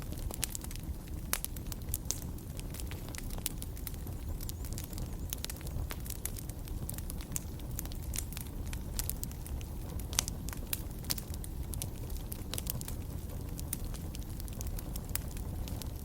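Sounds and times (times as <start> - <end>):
fire crackling in fireplace: 0.0 - 16.0.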